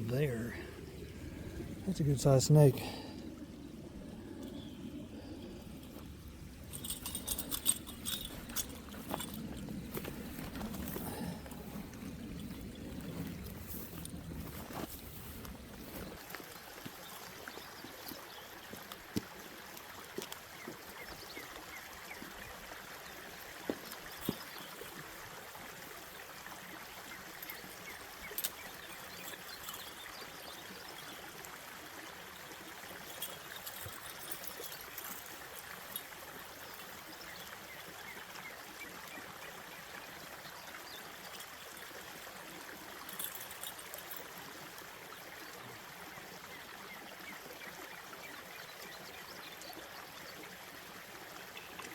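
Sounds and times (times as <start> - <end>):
creek water rushing: 0.0 - 51.9.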